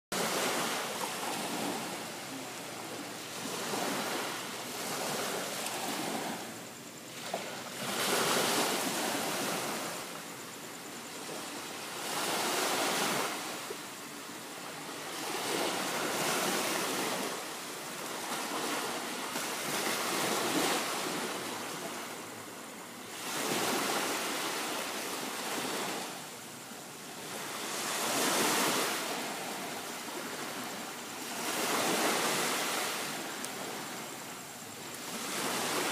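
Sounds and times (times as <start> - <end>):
sea waves breaking on shore: 0.1 - 35.9.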